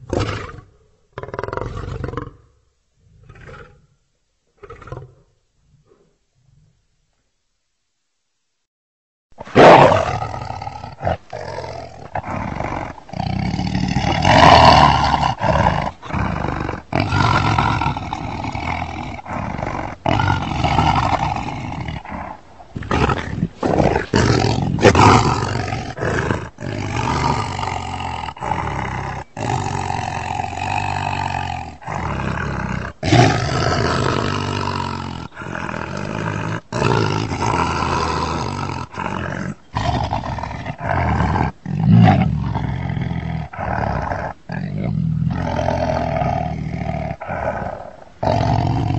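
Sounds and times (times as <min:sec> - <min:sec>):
lion roaring: 0:09.4 - 0:48.9.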